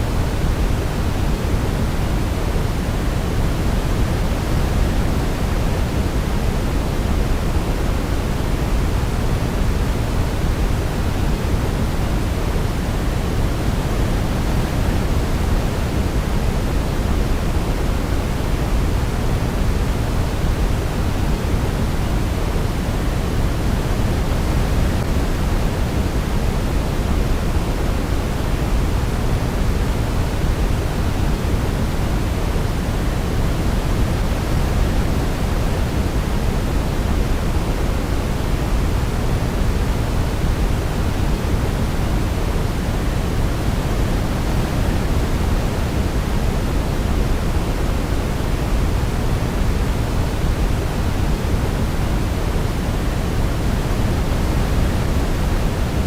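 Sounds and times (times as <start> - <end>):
steady low hiss: 0.0 - 56.0.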